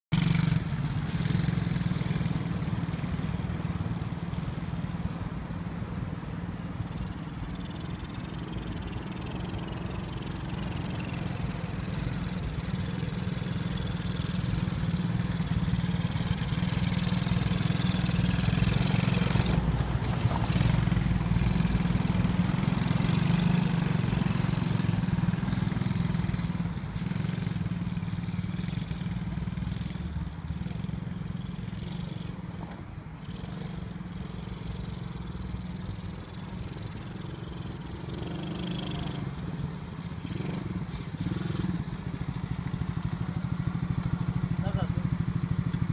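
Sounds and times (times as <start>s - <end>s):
quad bike engine running: 0.1s - 45.9s.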